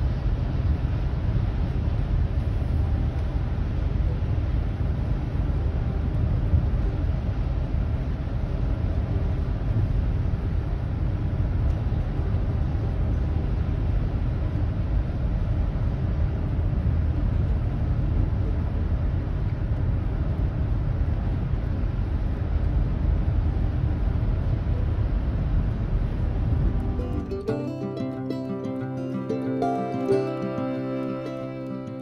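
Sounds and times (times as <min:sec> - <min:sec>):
car cabin road rumble: 0:00.0 - 0:27.4.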